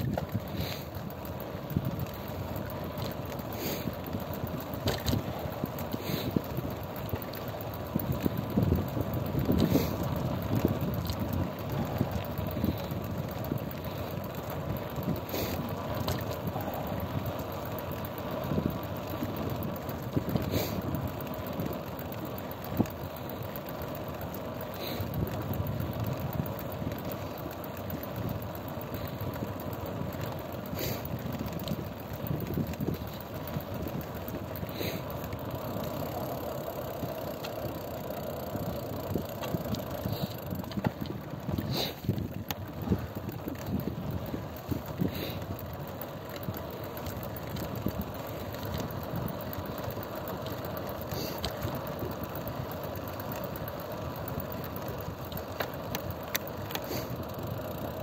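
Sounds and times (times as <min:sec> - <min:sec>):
road and engine noise: 0:00.0 - 0:58.0.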